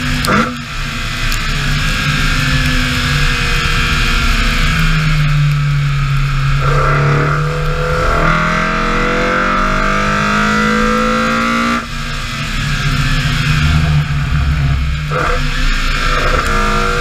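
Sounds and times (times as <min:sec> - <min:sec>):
rally car engine running hard: 0:00.0 - 0:17.0.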